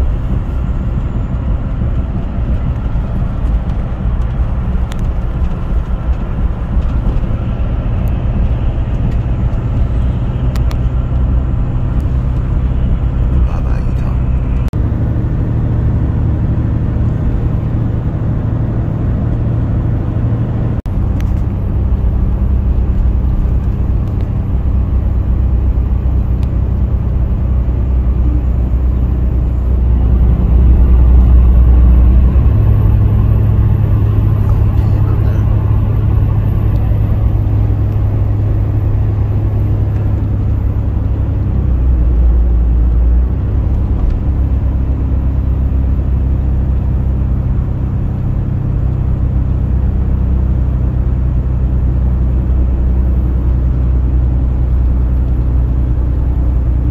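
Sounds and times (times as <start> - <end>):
car road and engine noise: 0.0 - 56.9
low hums: 0.0 - 56.9.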